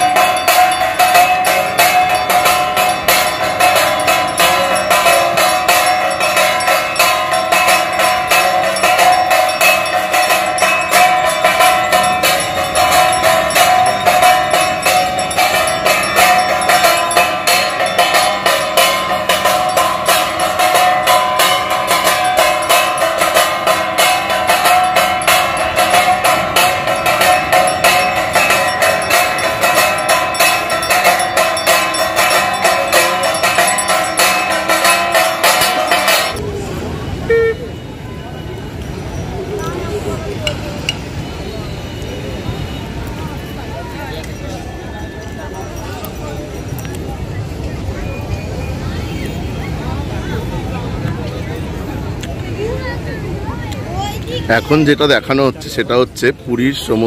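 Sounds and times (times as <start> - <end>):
metallic ringing: 0.0 - 49.4
bells clanging rapidly: 0.0 - 57.0.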